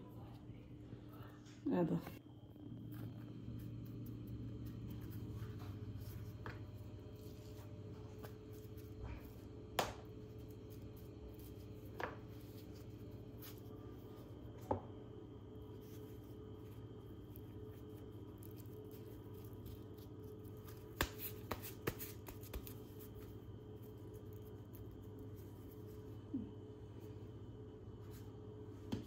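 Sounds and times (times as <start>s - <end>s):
steady low hum: 0.0s - 29.0s
hands rubbing pastry: 2.7s - 14.6s, 15.4s - 29.0s.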